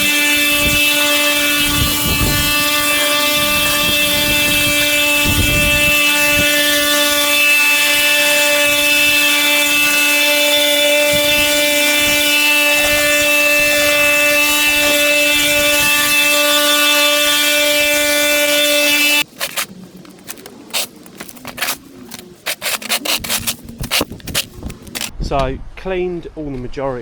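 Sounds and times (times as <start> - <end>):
small engine running: 0.0 - 19.7, 22.5 - 25.1.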